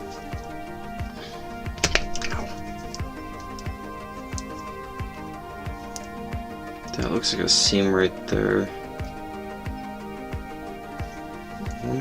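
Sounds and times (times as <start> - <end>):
background music with soft beat: 0.0 - 12.0.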